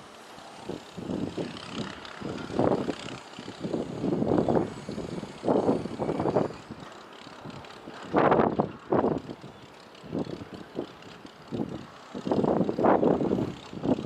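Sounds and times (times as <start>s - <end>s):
wind buffeting microphone: 0.5s - 14.0s.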